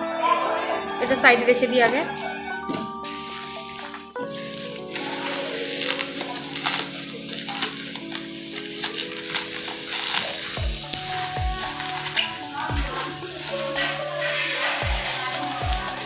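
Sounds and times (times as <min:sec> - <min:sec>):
background music with held notes: 0:00.0 - 0:16.0
bubble wrap crinkling: 0:01.9 - 0:16.0.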